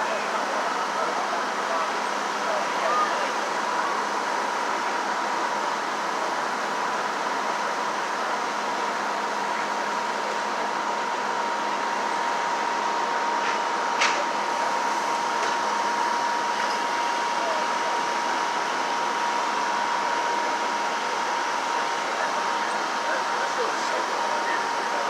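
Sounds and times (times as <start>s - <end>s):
thin steady whine: 0.0s - 25.0s.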